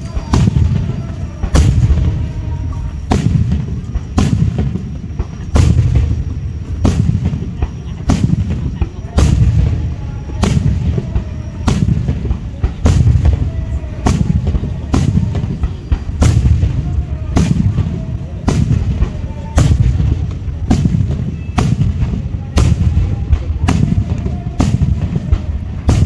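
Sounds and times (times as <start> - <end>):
fireworks bursting with booms: 0.0 - 26.0.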